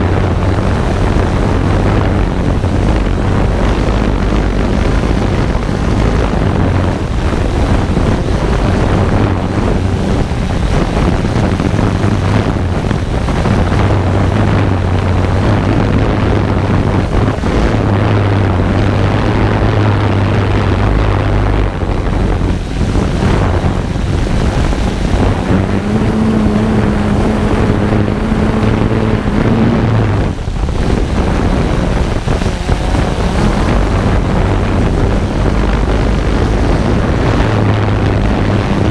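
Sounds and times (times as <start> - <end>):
drone propellers whirring: 0.0 - 38.9
wind rushing over microphone: 0.0 - 38.9.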